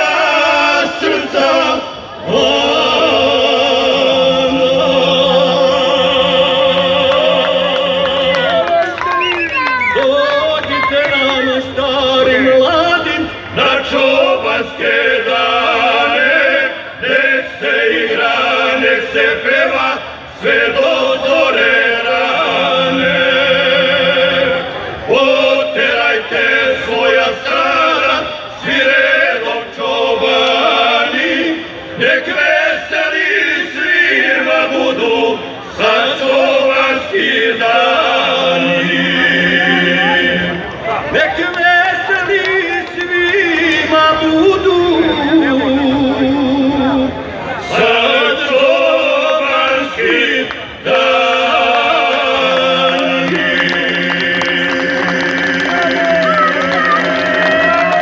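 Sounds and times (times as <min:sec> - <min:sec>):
male group singing in harmony: 0:00.0 - 0:08.7, 0:10.0 - 0:58.0.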